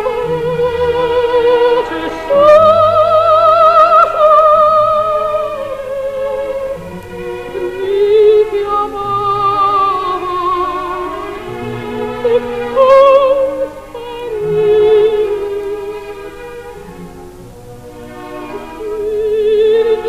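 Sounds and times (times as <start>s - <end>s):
operatic soprano singing: 0.0s - 16.6s, 18.1s - 20.0s.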